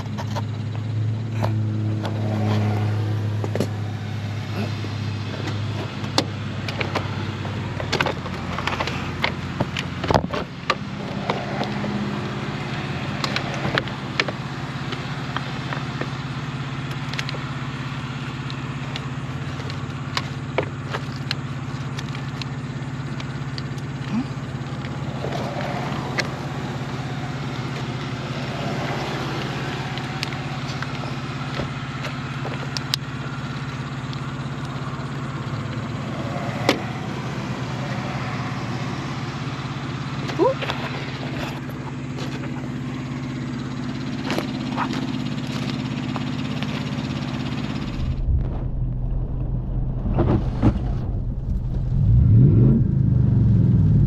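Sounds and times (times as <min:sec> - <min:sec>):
car engine humming: 0:00.0 - 0:54.0.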